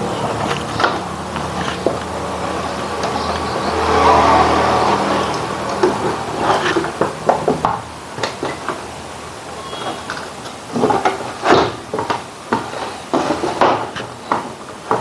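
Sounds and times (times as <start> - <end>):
plastic cover scraping: 0.0 - 15.0.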